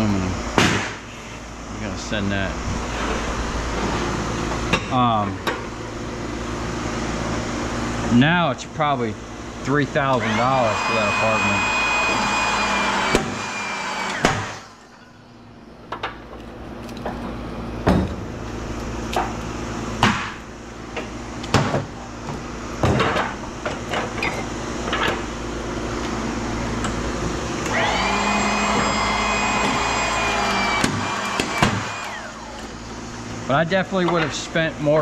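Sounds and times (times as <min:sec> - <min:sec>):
high motor whine: 0:00.0 - 0:35.0
steady machine hum: 0:00.0 - 0:35.0.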